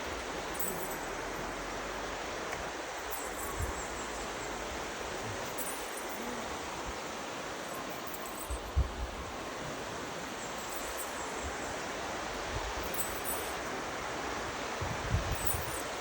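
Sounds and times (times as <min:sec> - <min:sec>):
outdoor ambience hiss: 0:00.0 - 0:16.0.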